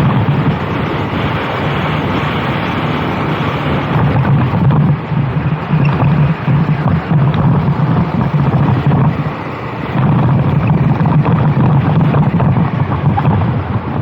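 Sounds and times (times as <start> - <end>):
go-kart engine running: 0.0 - 14.0
wind noise on microphone: 0.0 - 14.0.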